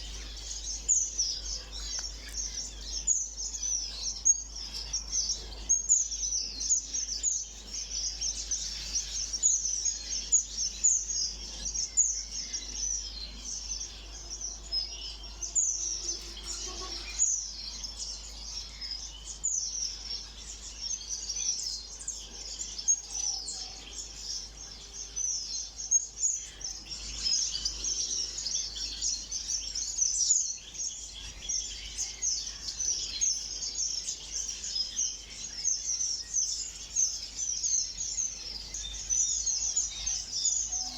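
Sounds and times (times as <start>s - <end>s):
cage birds chirping: 0.0s - 40.9s.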